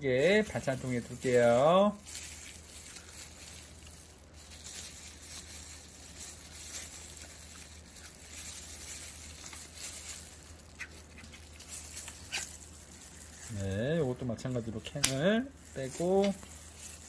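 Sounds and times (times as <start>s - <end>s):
faint handling clicks and rustles: 0.4s - 17.0s.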